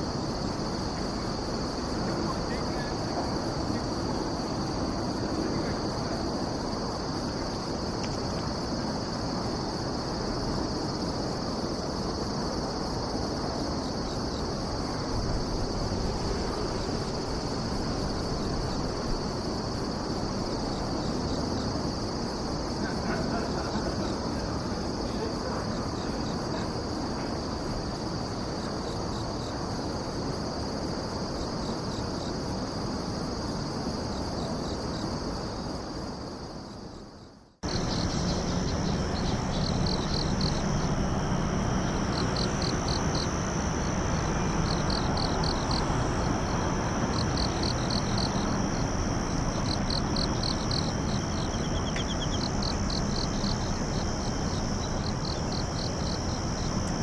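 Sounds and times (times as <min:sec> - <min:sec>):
crickets and insects ringing: 0:00.0 - 0:57.0
insect chirp trills: 0:00.0 - 0:57.0.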